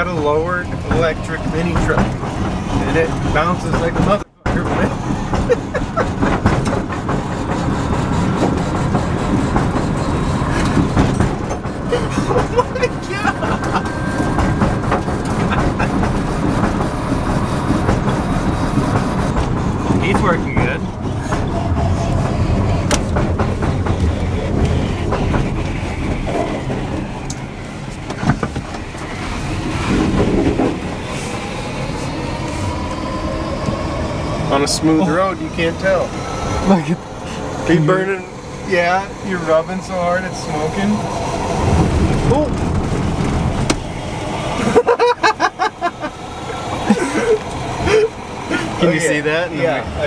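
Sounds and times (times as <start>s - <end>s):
road and tyre noise: 0.0s - 50.0s
suspension rattling and knocking: 0.0s - 50.0s.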